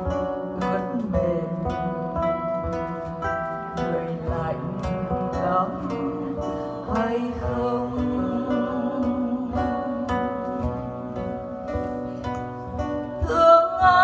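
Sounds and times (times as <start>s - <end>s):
acoustic guitar plucking: 0.0s - 14.0s
woman singing: 0.0s - 14.0s.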